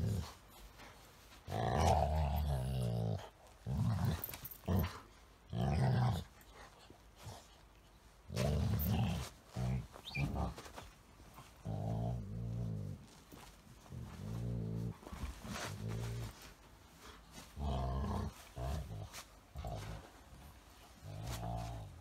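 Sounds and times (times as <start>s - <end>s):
dog play growls: 0.0s - 7.6s, 8.3s - 22.0s.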